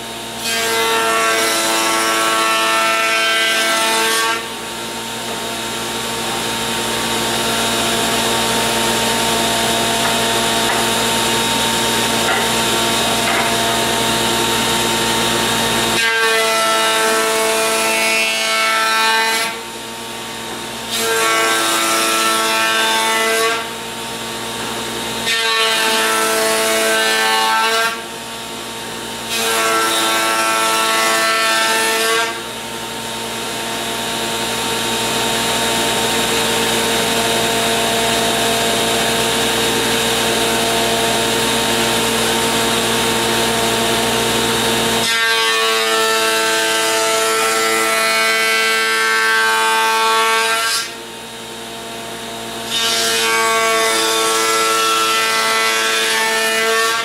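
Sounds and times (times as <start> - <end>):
power woodworking cutter running: 0.0 - 57.0.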